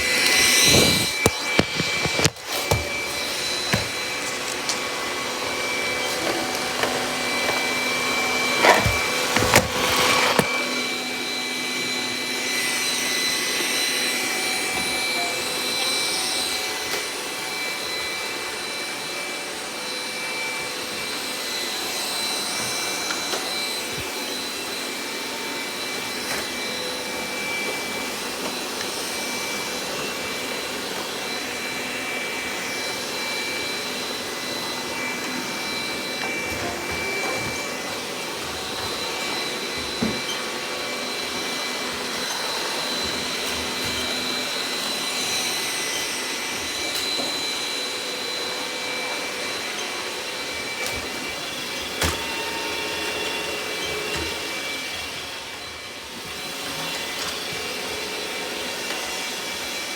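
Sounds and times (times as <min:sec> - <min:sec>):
robot vacuum running: 0:00.0 - 0:59.9.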